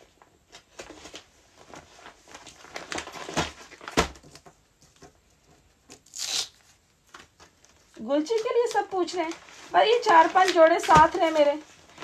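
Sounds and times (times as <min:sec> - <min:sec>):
plastic packets crinkling: 0:00.5 - 0:04.5, 0:05.9 - 0:12.0.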